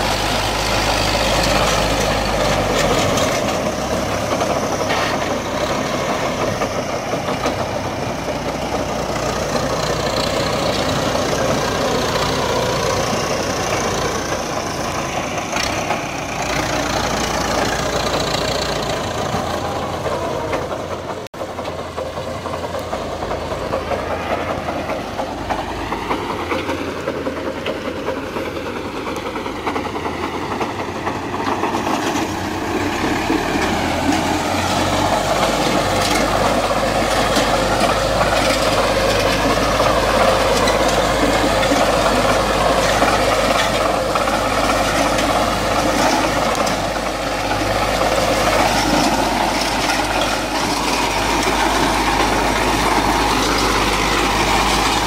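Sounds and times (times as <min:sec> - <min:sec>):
power harrow churning soil: 0:00.0 - 0:55.0
tractor diesel engine under load: 0:00.0 - 0:55.0.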